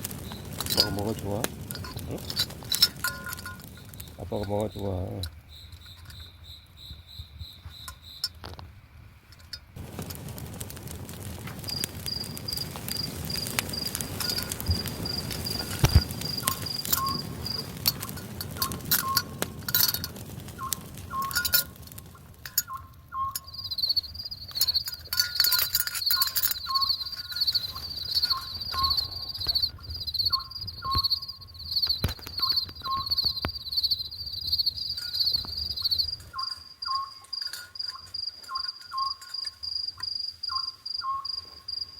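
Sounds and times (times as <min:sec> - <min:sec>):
crackling and sharp clicks: 0:00.0 - 0:06.4, 0:09.3 - 0:40.2
crickets chirping: 0:00.0 - 0:41.9.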